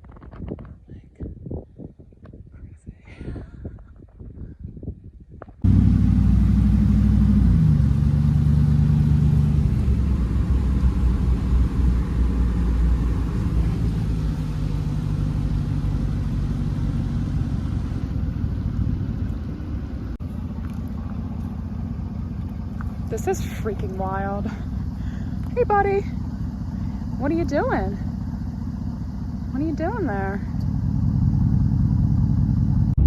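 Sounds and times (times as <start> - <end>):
truck engine rumbling: 5.6 - 33.0.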